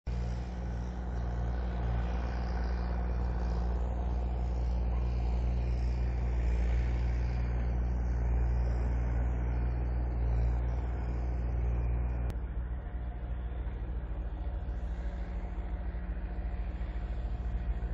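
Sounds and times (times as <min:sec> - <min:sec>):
diesel engine running: 0:00.1 - 0:17.9.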